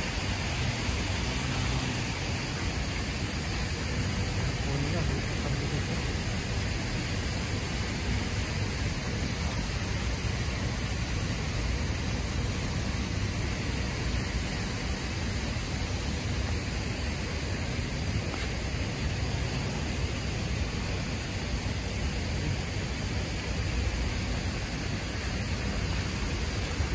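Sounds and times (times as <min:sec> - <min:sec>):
sprinklers spraying water: 0:00.0 - 0:26.9.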